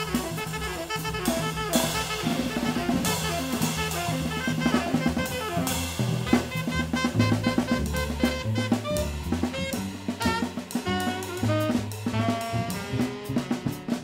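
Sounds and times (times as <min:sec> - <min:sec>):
drum kit: 0:00.0 - 0:14.0
saxophone: 0:00.0 - 0:14.0
plucked double bass: 0:01.8 - 0:13.9.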